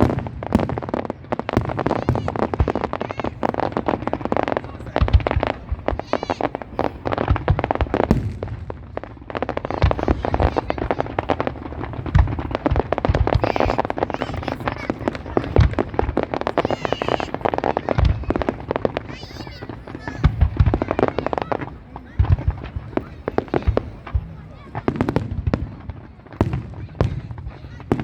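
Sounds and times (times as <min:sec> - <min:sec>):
deep fireworks booms: 0:00.0 - 0:28.0
fireworks crackling bangs: 0:00.0 - 0:28.0.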